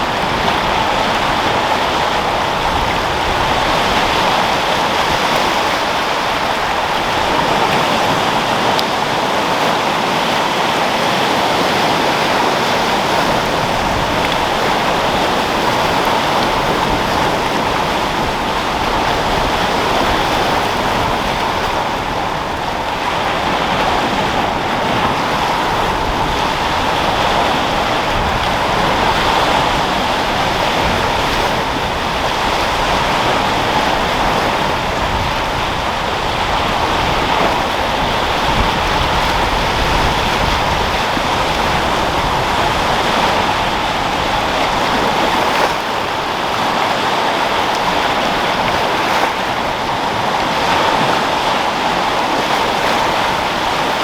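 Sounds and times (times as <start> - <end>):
sea waves breaking: 0.0 - 54.0
wind: 0.0 - 54.0.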